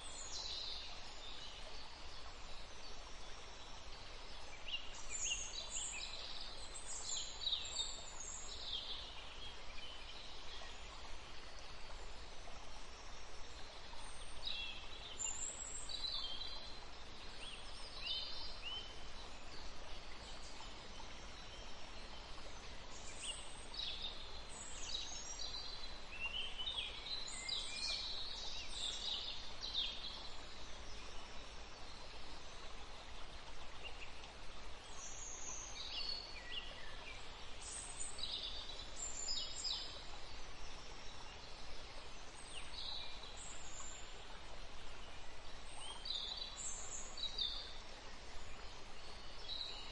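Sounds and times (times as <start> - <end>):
low background noise: 0.0 - 49.9.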